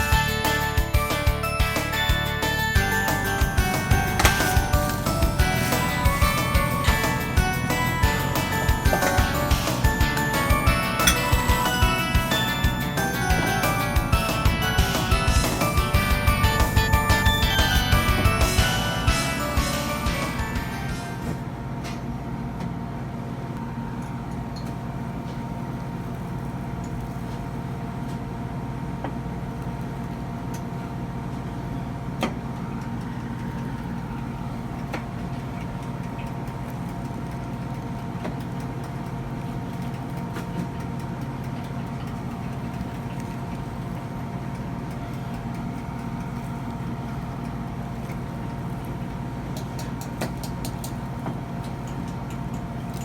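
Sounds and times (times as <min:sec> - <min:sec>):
mechanical hum: 0:00.0 - 0:53.0.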